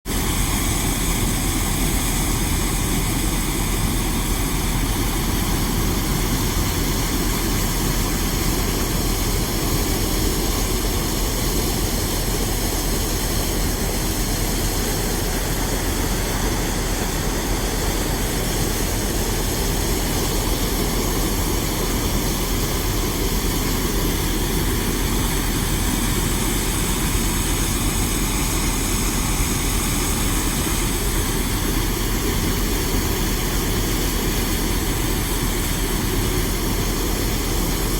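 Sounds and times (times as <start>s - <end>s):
heavy machinery engines droning: 0.2s - 37.9s.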